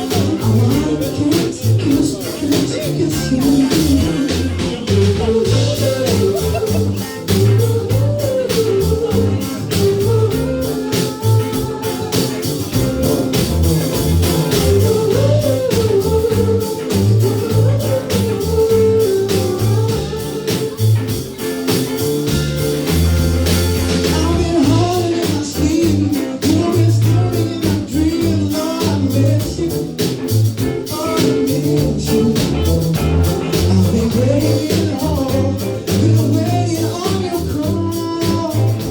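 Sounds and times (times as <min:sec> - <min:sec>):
person singing: 0:00.0 - 0:22.1, 0:23.5 - 0:38.9
drums keeping a steady beat: 0:00.0 - 0:38.9
rock band playing: 0:00.0 - 0:38.9.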